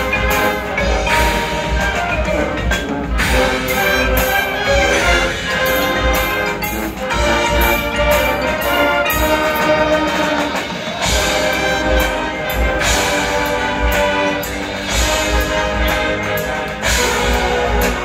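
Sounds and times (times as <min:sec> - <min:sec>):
marching band brass chords: 0:00.0 - 0:18.0.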